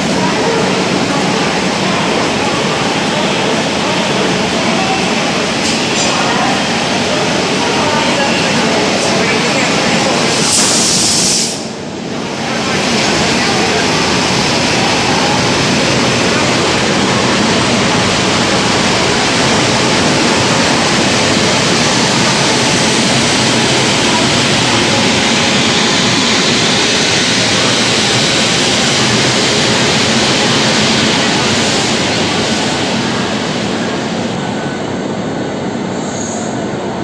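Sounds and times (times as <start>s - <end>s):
train wheels rushing: 0.0s - 37.0s.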